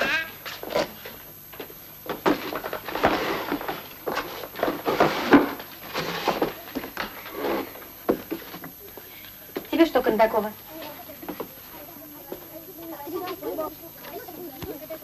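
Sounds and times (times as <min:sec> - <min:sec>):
scuffling footsteps: 0:00.0 - 0:15.0.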